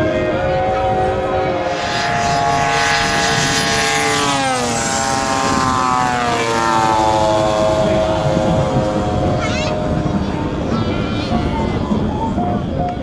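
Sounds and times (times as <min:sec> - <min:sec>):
model plane engines droning: 0:00.0 - 0:13.0.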